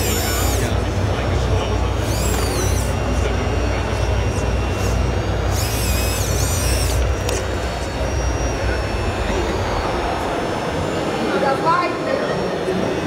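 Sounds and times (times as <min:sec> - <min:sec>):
crowd chatter: 0:00.0 - 0:13.0
high-pitched electric whine: 0:00.0 - 0:13.0
steady low hum: 0:00.0 - 0:13.0.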